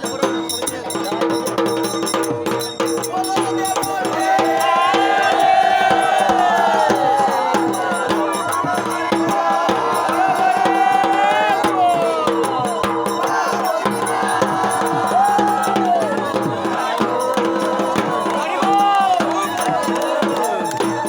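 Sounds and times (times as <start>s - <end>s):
rattling clicking percussion: 0.0s - 21.0s.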